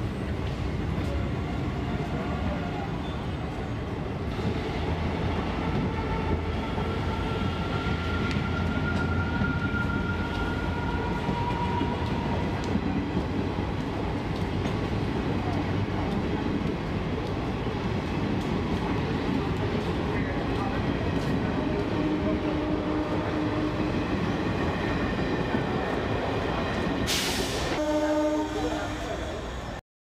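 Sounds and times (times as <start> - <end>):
train wheels rumbling on rails: 0.0 - 29.8.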